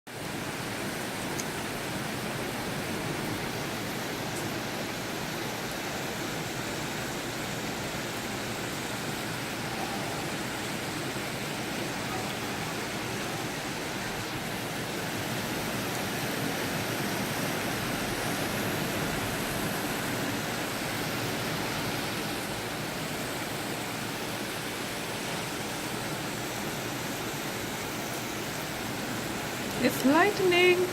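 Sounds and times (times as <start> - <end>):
water rushing: 0.1 - 30.9
wind: 0.1 - 30.9.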